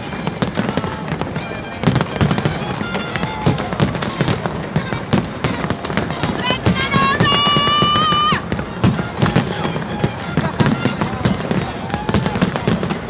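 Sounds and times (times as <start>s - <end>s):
crowd voices: 0.0s - 13.0s
fireworks bursting: 0.0s - 13.0s
music: 0.4s - 12.9s.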